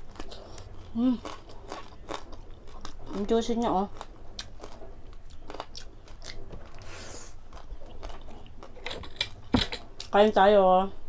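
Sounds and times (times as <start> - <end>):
chewing crispy pork: 0.0 - 10.2.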